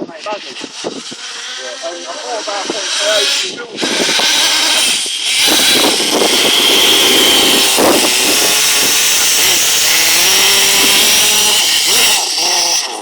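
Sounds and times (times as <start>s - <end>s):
high-pitched toy motor whine: 0.0s - 13.0s.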